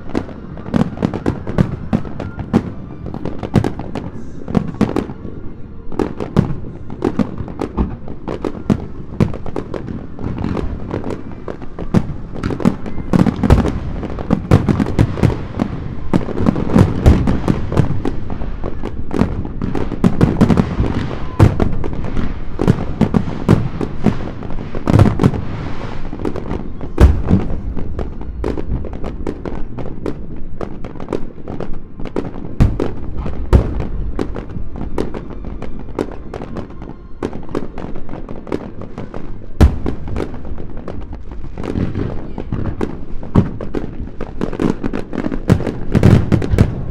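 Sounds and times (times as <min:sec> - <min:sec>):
fireworks booming: 0:00.0 - 0:46.9
fireworks cracking and crackling: 0:00.0 - 0:46.9.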